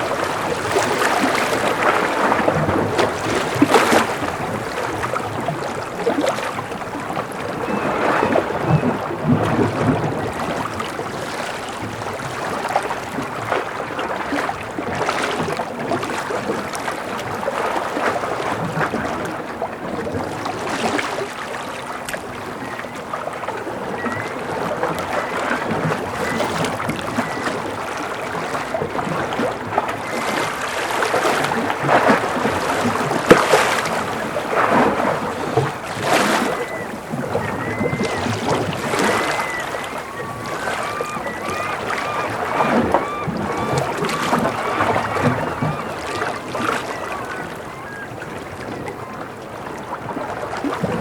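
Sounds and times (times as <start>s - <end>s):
sea waves washing against breakwater: 0.0s - 51.0s.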